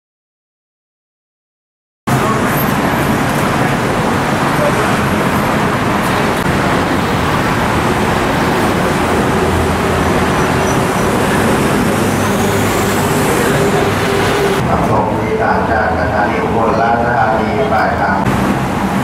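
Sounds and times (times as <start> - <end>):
road traffic: 2.1 - 19.0.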